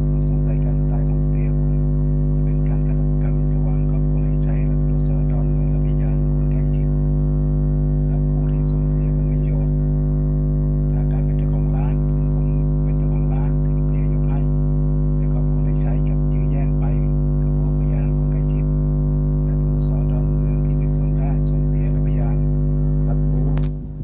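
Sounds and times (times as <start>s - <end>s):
faint voices: 0.0s - 7.0s, 8.1s - 9.8s, 10.9s - 14.5s, 15.2s - 23.8s
loud electrical mains hum: 0.0s - 24.0s.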